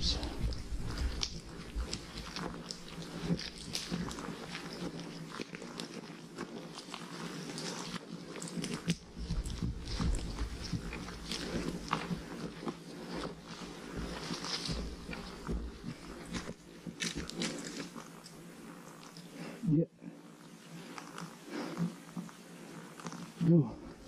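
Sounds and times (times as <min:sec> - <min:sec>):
goats chewing and tearing plants: 0:00.0 - 0:19.6.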